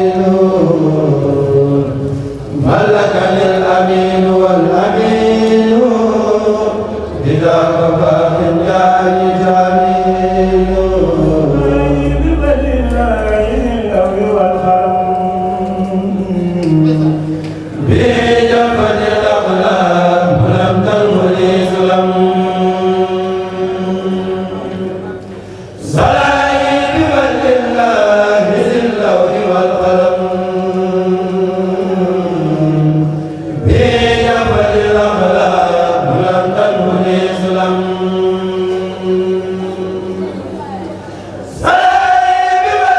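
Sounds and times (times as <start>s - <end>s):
choir chanting without instruments: 0.0s - 42.9s.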